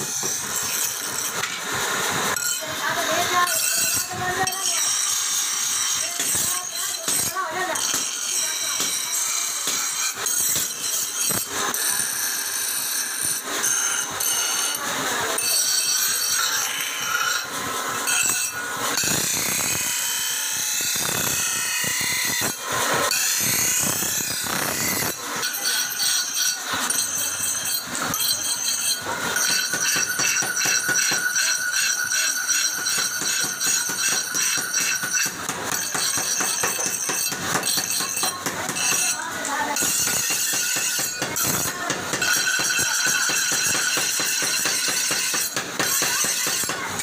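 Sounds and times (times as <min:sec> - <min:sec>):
grinder high whine: 0:00.0 - 0:47.0
metal grinding on grinding wheel: 0:00.0 - 0:47.0.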